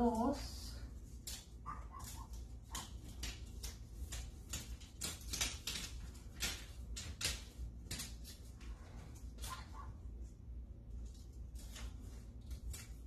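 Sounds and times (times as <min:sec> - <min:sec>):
low steady hum: 0:00.0 - 0:13.0
paper rustling and crinkling: 0:00.8 - 0:10.0, 0:10.9 - 0:13.0.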